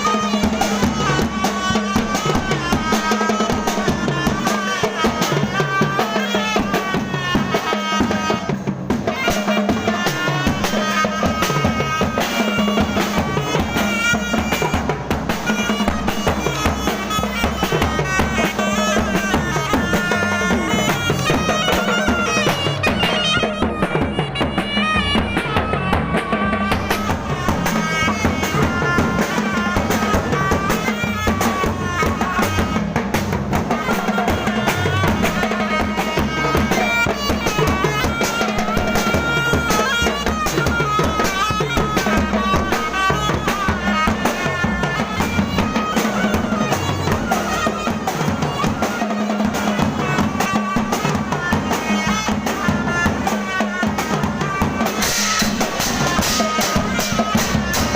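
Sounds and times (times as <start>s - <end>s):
drums and percussion beat: 0.0s - 57.9s
reedy wind instrument melody: 0.0s - 57.9s.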